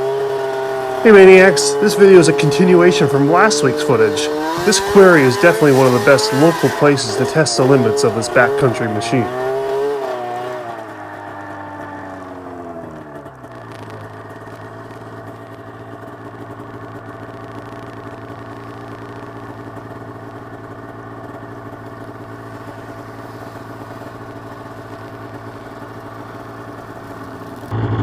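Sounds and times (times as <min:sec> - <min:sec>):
snowmobile engine idling: 0:00.0 - 0:28.0.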